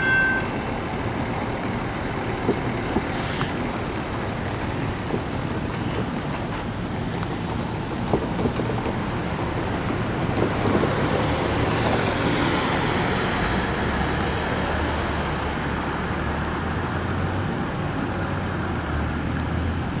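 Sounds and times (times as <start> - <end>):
cars passing on a street: 0.0 - 20.0.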